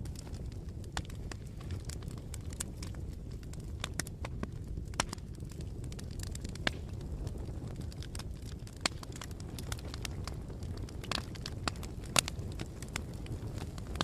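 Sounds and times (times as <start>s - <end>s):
bonfire flames rumbling: 0.0s - 14.0s
fire crackling and popping: 0.0s - 14.0s.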